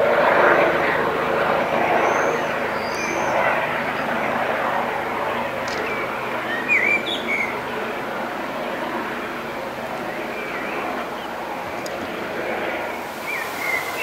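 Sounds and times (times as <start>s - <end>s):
distant helicopter drone: 0.0s - 14.0s.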